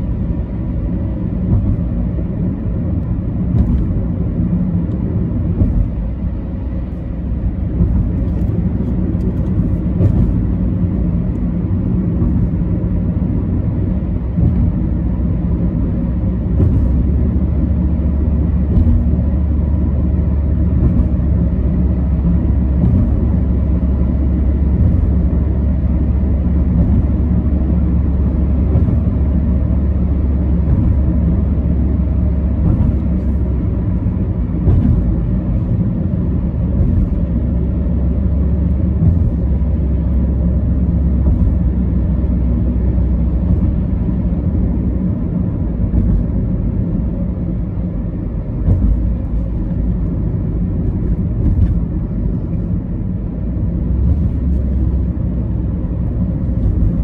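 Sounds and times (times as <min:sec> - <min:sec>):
car cabin road and engine rumble: 0:00.0 - 0:57.0.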